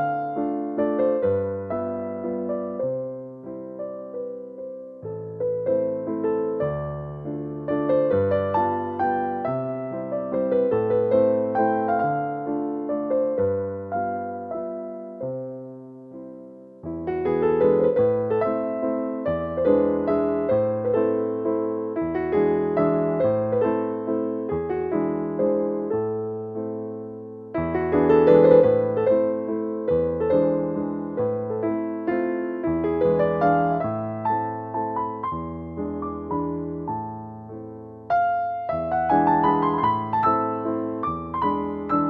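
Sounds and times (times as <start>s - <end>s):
gentle piano music: 0.0s - 42.0s.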